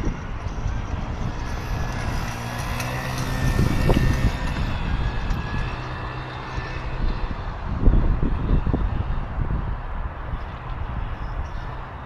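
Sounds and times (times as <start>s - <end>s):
pit bike engine running: 0.0s - 11.6s.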